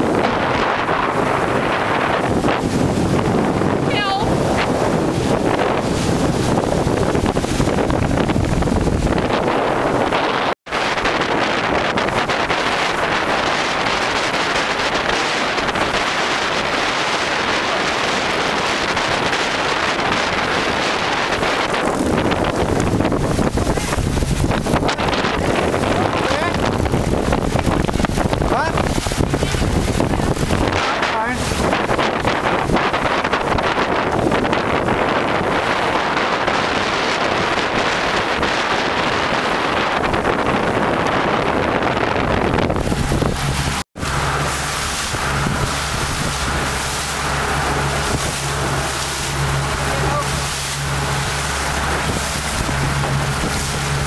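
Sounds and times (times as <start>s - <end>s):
boat under way: 0.0s - 54.0s
motorboat motor: 0.0s - 54.0s
water rushing: 0.0s - 54.0s
wind buffeting microphone: 0.0s - 54.0s.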